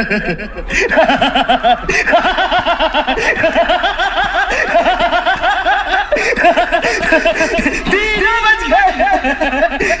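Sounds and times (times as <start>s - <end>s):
men laughing: 0.0s - 10.0s.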